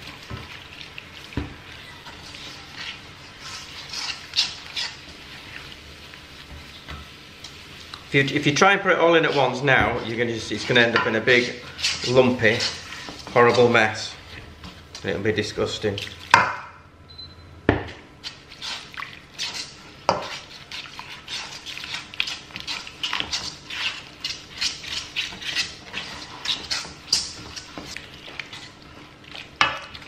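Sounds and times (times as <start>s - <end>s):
whisk scraping a pan: 0.0s - 16.3s, 18.2s - 30.0s.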